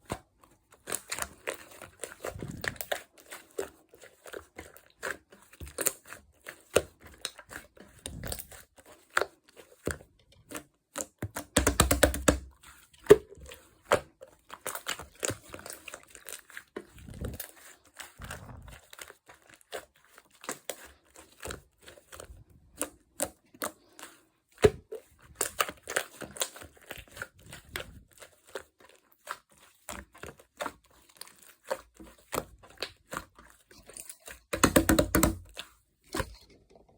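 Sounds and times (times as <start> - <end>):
slime squelch: 0.0 - 36.9.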